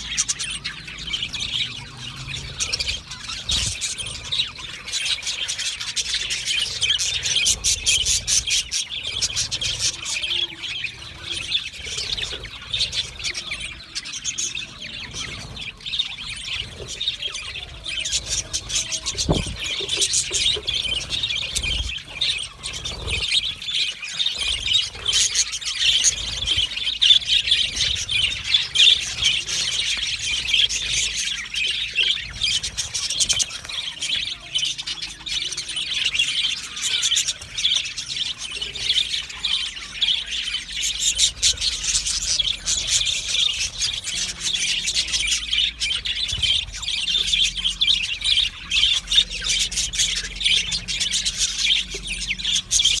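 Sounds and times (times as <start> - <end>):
budgerigars chattering: 0.0 - 53.0.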